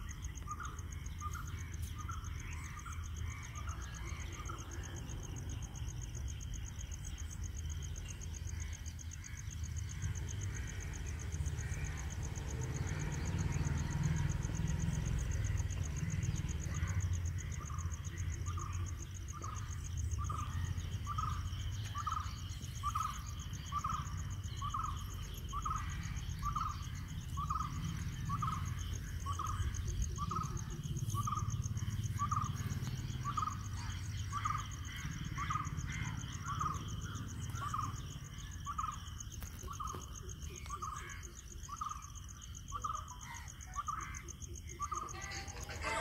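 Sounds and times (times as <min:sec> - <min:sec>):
high-pitched insect trill: 0:00.0 - 0:46.0.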